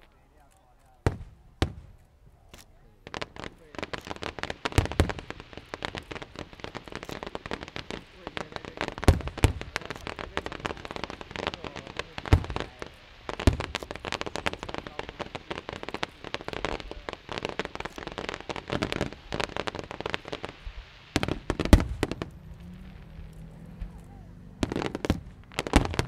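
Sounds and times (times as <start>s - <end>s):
fireworks bangs: 0.0s - 26.0s
fireworks crackling pops: 0.0s - 26.0s.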